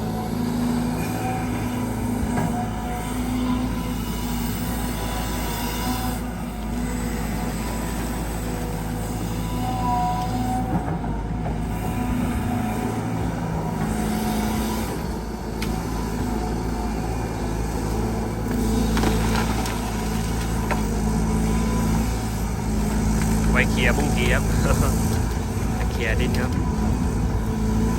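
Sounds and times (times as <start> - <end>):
excavator diesel engine: 0.0 - 27.9.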